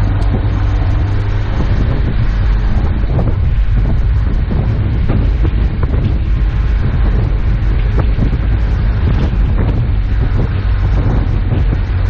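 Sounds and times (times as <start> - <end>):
vehicle driving on snowy road: 0.0 - 12.0
wind buffeting microphone: 0.0 - 12.0.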